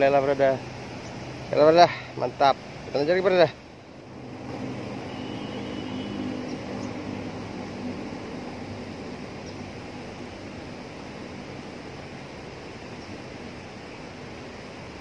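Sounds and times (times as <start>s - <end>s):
water rushing through canal: 0.0s - 15.0s.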